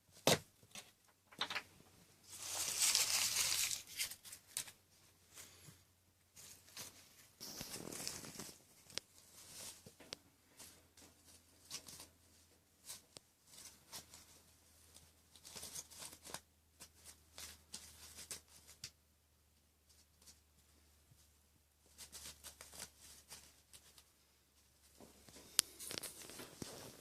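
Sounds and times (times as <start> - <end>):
kittens' paws scratching and pattering: 2.2 - 19.0, 19.8 - 27.0.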